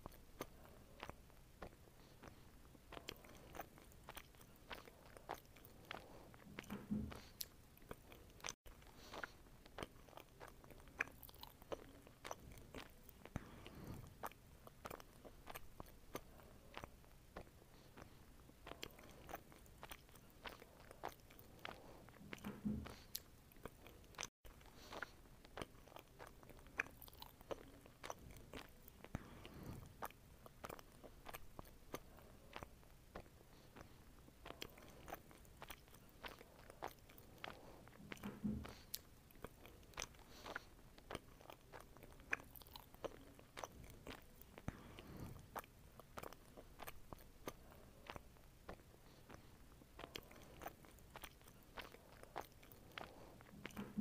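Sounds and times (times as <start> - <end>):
biting and chewing fruit: 0.0 - 54.0.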